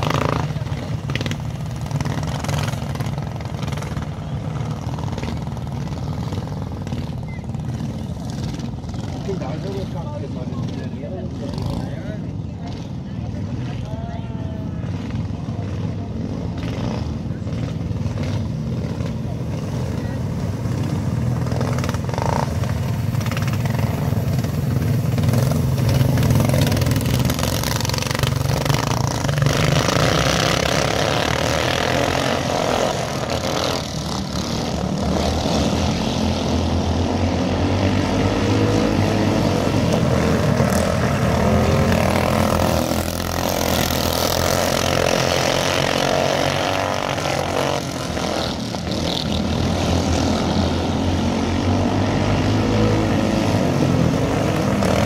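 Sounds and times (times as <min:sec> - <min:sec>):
racing karts passing by: 0:00.0 - 0:55.0.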